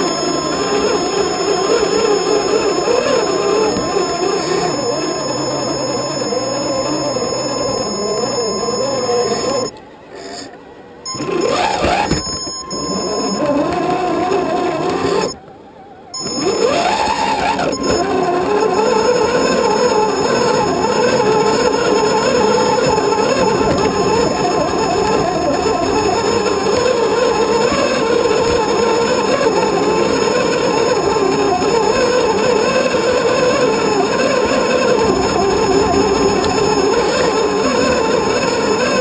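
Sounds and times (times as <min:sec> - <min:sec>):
toy car electric motor whining: 0:00.0 - 0:39.0.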